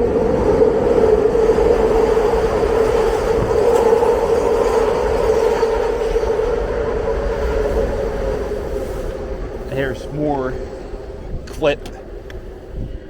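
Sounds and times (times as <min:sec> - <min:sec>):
train passing with whine: 0:00.0 - 0:13.0.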